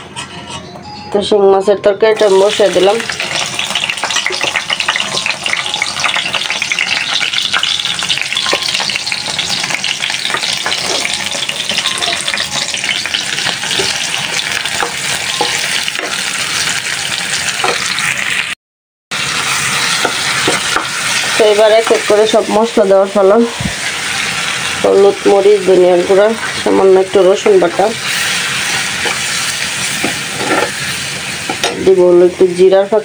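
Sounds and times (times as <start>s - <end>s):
onions sizzling in frying pan: 2.2s - 18.6s, 19.2s - 33.0s.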